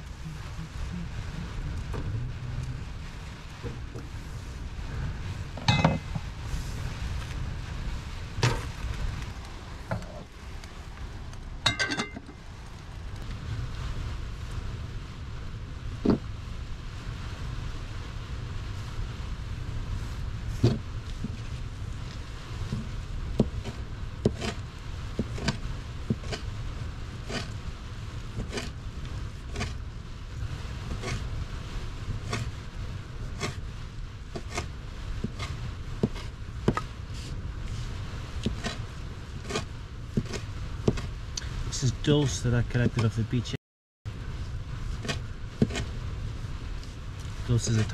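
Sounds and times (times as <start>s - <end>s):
low rumble: 0.0s - 47.9s.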